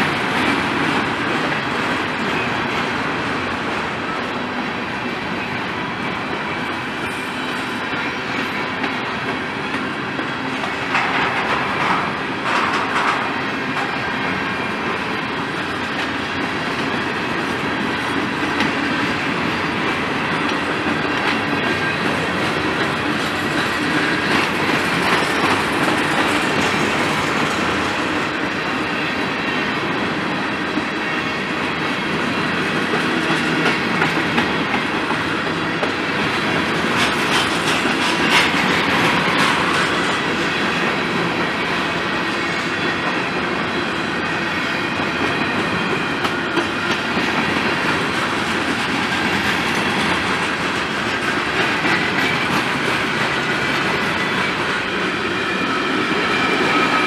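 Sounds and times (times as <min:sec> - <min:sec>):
train wheels clicking over rail joints: 0:05.7 - 0:57.0.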